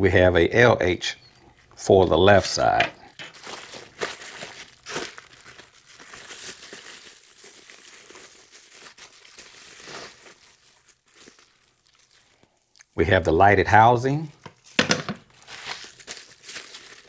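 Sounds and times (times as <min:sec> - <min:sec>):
bubble wrap crinkling: 0:01.3 - 0:13.0, 0:14.2 - 0:17.0.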